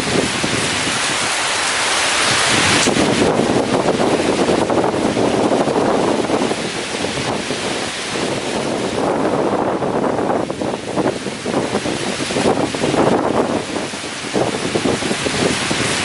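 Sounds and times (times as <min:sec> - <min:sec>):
heavy rain: 0:00.0 - 0:16.0
strong wind gusting through trees: 0:00.0 - 0:16.0.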